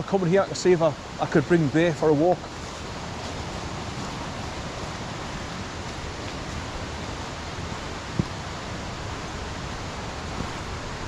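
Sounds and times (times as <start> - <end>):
rushing water of waterfall: 0.0 - 11.0.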